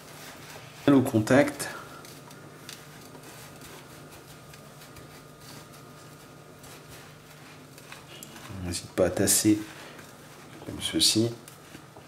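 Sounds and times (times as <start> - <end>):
gritty rustling and crunching of salt: 0.0 - 12.0
low steady hum: 0.0 - 12.0.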